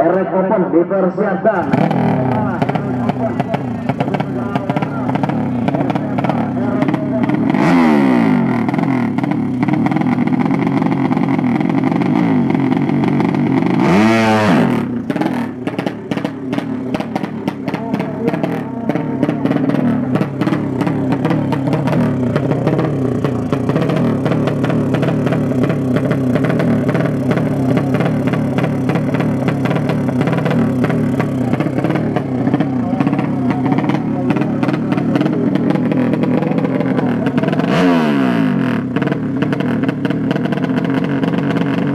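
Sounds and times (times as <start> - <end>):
racing motorcycle engines revving: 1.4 - 41.9
motorcycle passing by: 1.6 - 10.0, 10.6 - 41.9.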